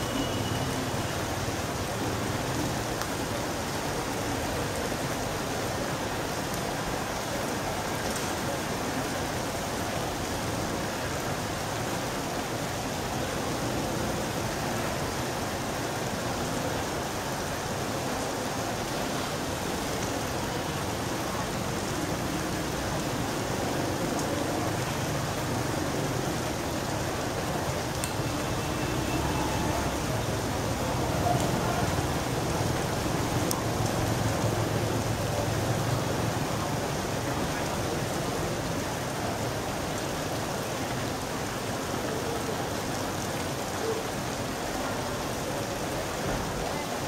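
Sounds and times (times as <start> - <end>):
rain falling on street and roofs: 0.0 - 47.0.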